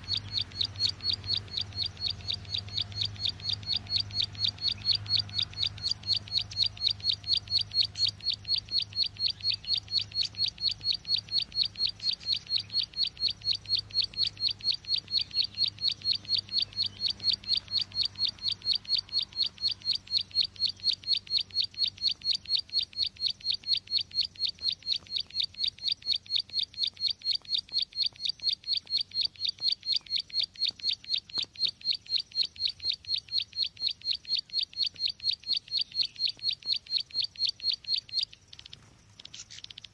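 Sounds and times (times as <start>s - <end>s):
bird high chip notes: 0.0s - 39.9s.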